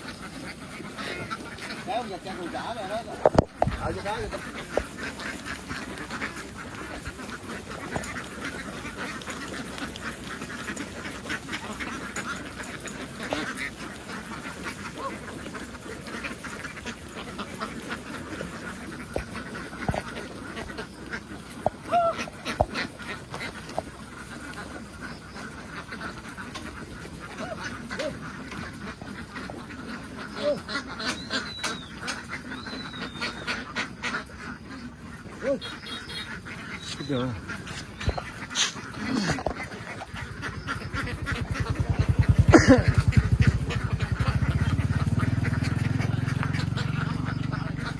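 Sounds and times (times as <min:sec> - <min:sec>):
ducks quacking: 0:00.0 - 0:47.9.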